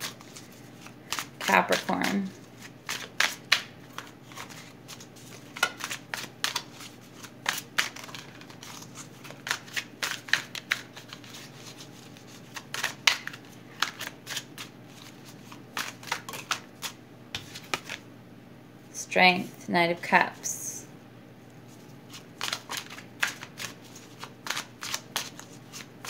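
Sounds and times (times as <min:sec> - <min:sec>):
cards being shuffled: 0:00.0 - 0:18.0, 0:21.7 - 0:26.0.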